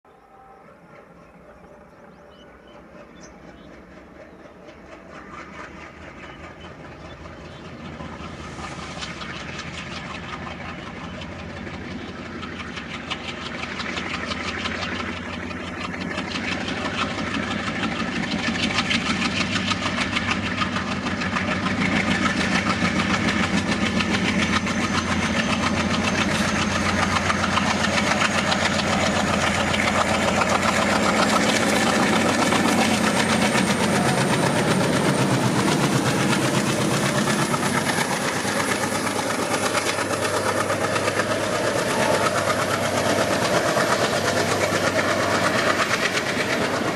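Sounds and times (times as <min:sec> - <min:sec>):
diesel locomotive engines chugging: 0:00.1 - 0:46.9.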